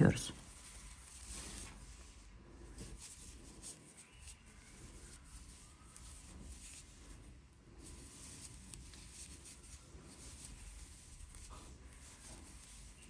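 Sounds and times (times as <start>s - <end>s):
crochet hook and yarn rustling: 0.0s - 13.0s.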